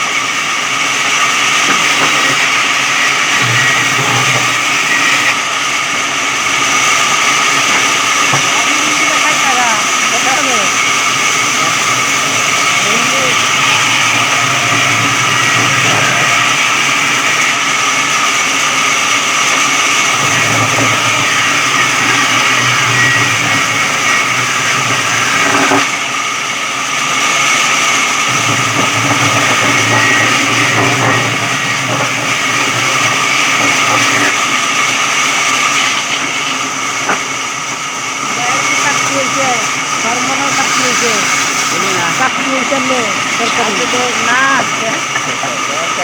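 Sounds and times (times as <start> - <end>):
electric saw whining: 0.0 - 46.0.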